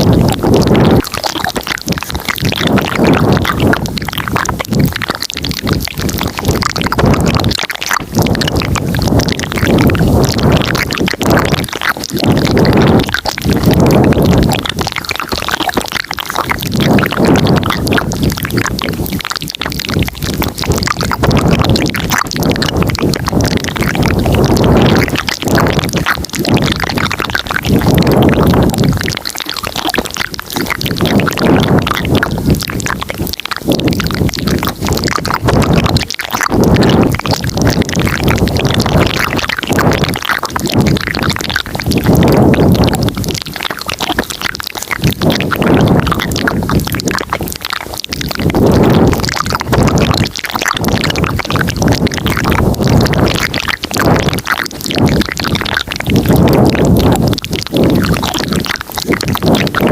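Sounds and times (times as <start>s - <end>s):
mouth sounds with clicking: 0.0s - 59.9s.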